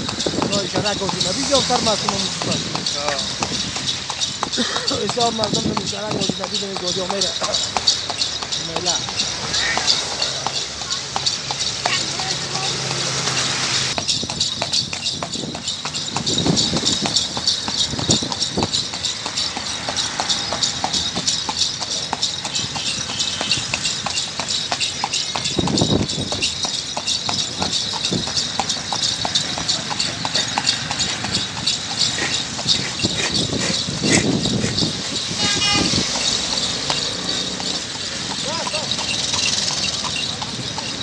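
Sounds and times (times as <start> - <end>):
horse hooves clip-clopping on pavement: 0.0 - 41.0.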